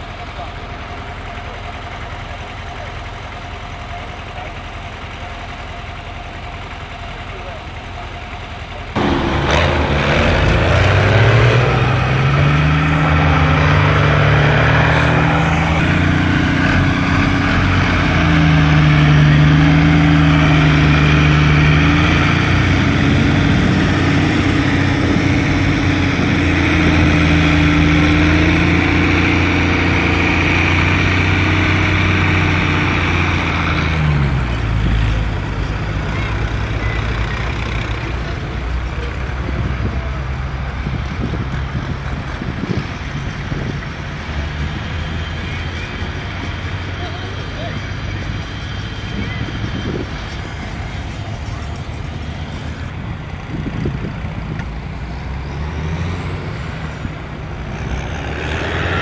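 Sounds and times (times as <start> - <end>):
tractor engine revving: 0.0 - 59.0.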